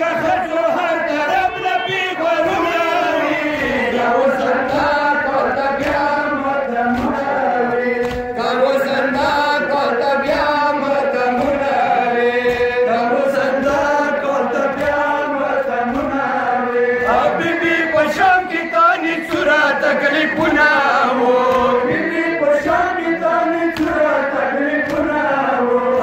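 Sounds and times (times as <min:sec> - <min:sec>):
person chanting a lament: 0:00.0 - 0:26.0.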